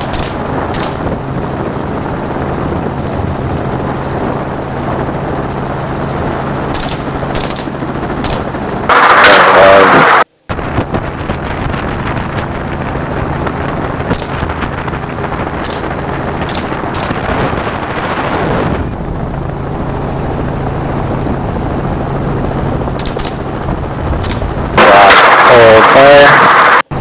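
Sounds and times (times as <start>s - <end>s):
helicopter engine and rotor: 0.0s - 27.0s
wind rushing in: 0.0s - 27.0s.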